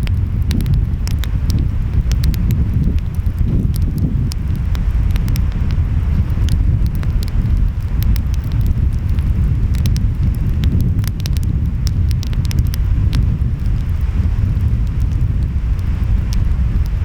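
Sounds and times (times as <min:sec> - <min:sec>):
wind: 0:00.0 - 0:17.0
wood fire crackling and popping: 0:00.0 - 0:17.0.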